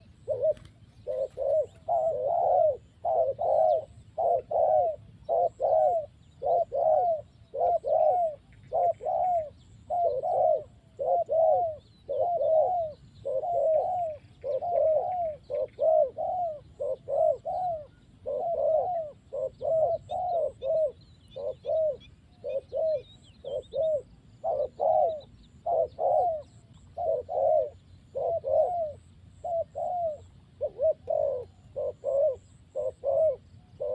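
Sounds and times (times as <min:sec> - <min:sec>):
doves cooing: 0:00.0 - 0:33.9
small birds chirping: 0:00.0 - 0:33.9.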